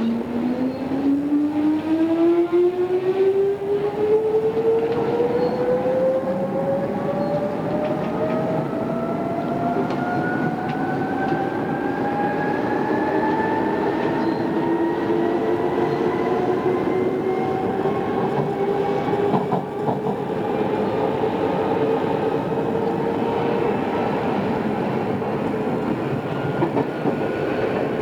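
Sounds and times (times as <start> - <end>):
train wheel rumble: 2.6 - 28.0.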